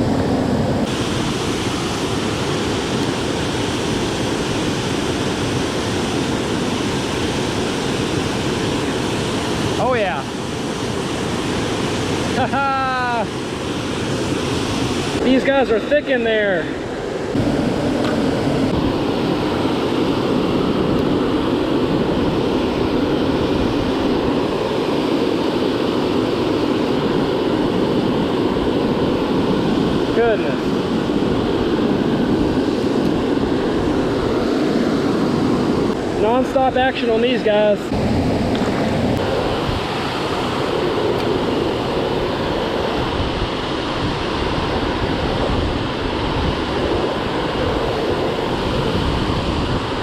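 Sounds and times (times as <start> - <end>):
river water flowing over dam: 0.0 - 50.0.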